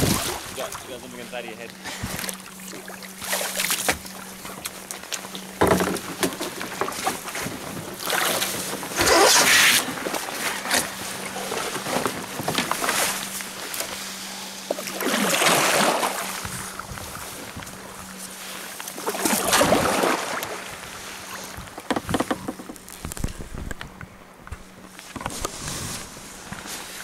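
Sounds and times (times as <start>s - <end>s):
paddle swishing and splashing: 0.0s - 23.7s, 24.9s - 27.0s.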